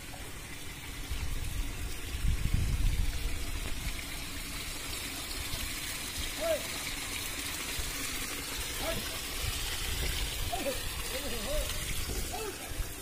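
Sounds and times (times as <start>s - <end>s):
water trickling into a hole: 0.0s - 13.0s.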